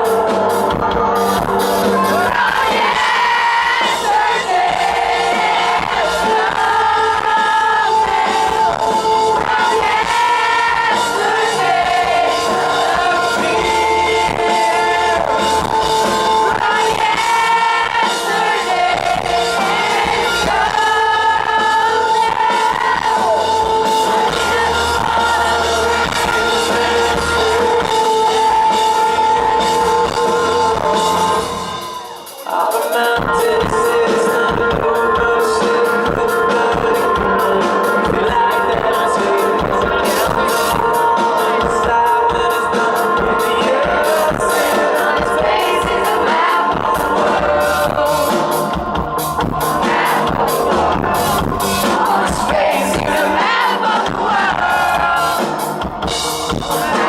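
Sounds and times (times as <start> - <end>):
man singing: 0.0 - 55.7, 56.5 - 57.0
live rock band playing: 0.0 - 57.0.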